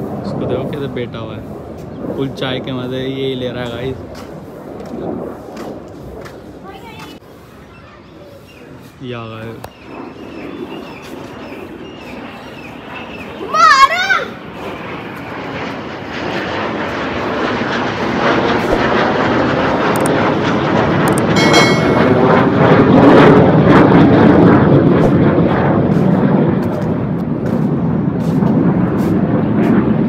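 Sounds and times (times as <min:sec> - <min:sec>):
jet flying overhead: 0:00.0 - 0:30.0.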